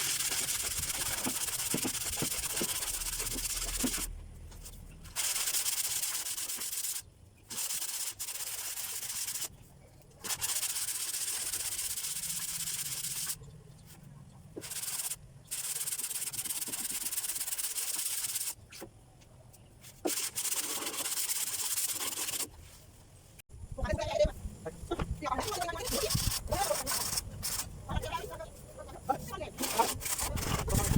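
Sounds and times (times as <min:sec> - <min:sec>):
sanding bodywork scraping hiss: 0:00.0 - 0:04.1, 0:05.1 - 0:09.5, 0:10.2 - 0:14.0, 0:14.6 - 0:18.6, 0:19.8 - 0:22.9, 0:25.2 - 0:30.9.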